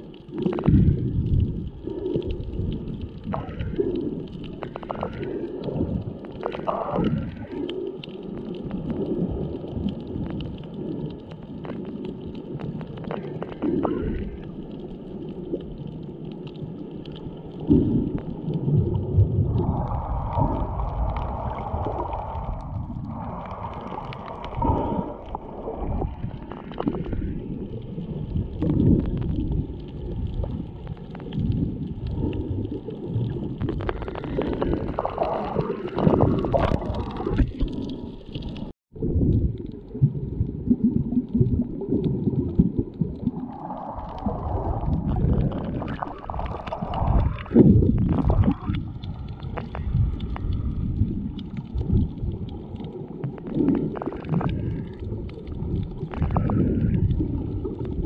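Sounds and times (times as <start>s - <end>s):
muffled underwater sloshing: 0.0s - 58.0s.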